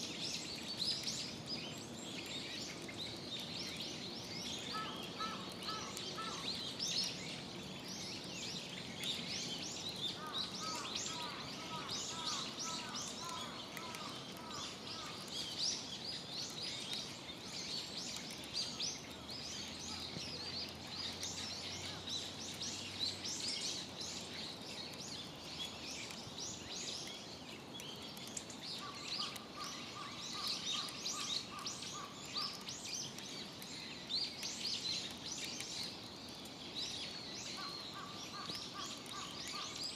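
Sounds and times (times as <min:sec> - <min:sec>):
birds chirping: 0:00.2 - 0:39.9.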